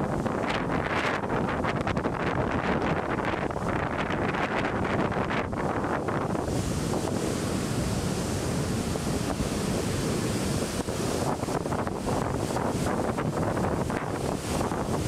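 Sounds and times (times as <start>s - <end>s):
storm surf breaking on beach: 0.0s - 15.0s
wind buffeting microphone: 0.0s - 15.0s.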